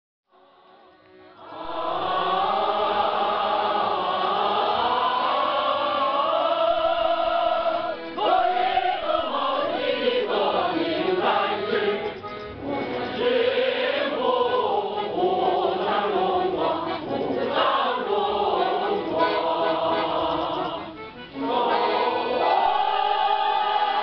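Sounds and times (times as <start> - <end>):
group singing in chorus: 0.3 - 24.0.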